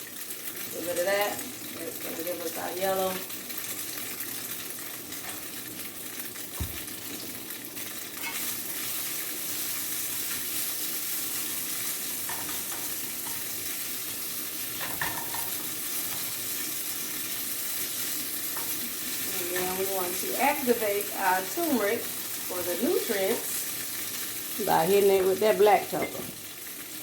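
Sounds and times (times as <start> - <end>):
tofu sizzling in a pan: 0.0 - 27.0.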